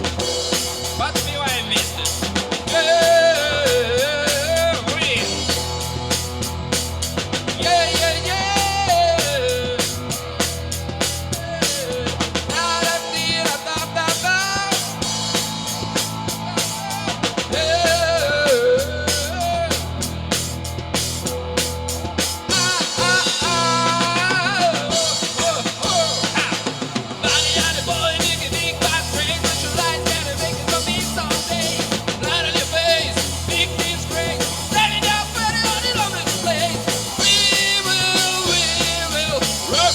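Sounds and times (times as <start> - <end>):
drum kit beat: 0.0 - 39.9
rock band playing: 0.0 - 39.9.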